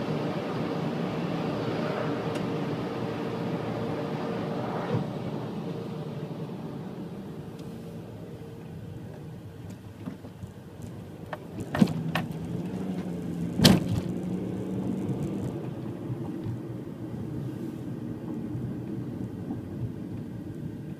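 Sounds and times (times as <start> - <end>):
car rumbling: 0.0 - 20.9.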